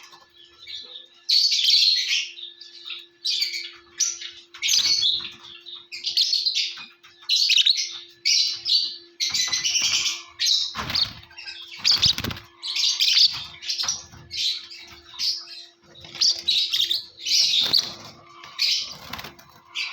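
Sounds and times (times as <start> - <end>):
lovebirds chattering: 0.0 - 19.9.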